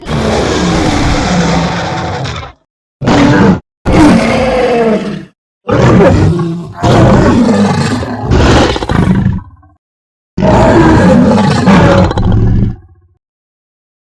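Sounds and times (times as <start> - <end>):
dinosaur roars and growls: 0.0 - 9.8, 10.4 - 13.2.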